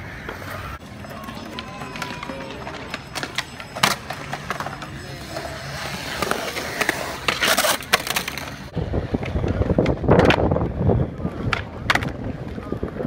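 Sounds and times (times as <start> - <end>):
skateboard clacks: 0.0 - 13.0
skateboard wheels rolling on concrete: 0.0 - 13.0
skateboard scraping on concrete lip: 0.5 - 13.0.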